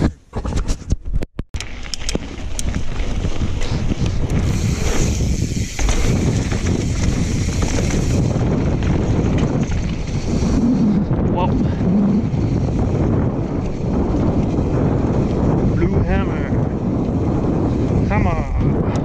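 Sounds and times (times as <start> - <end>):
bike tyres rumbling on dirt: 1.6 - 19.0
wind on camera microphone: 2.0 - 19.0.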